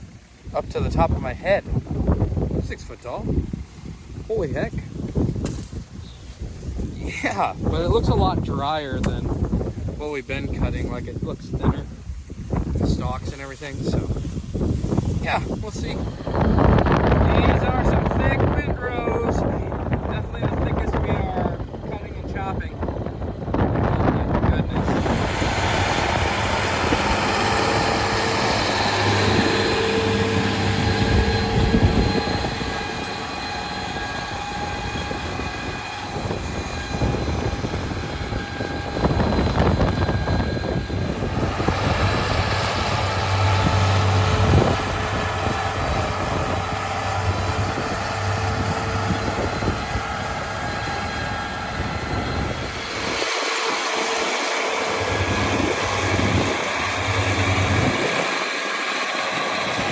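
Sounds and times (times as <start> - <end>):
farm machinery engine running: 0.0 - 59.9.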